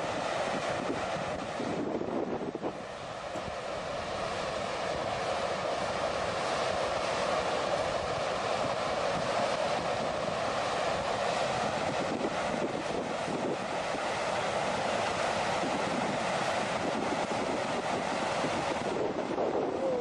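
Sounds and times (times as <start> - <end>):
muddy floodwater rushing: 0.0 - 20.0.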